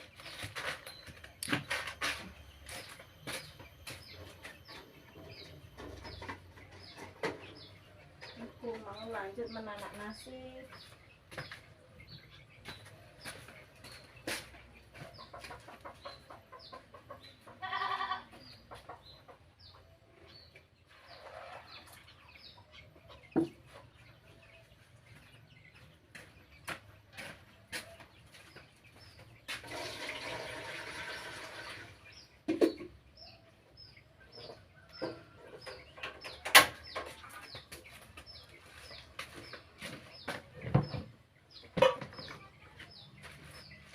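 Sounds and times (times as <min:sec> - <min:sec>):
chickens clucking: 0:00.0 - 0:43.9
small birds chirping: 0:00.0 - 0:43.9.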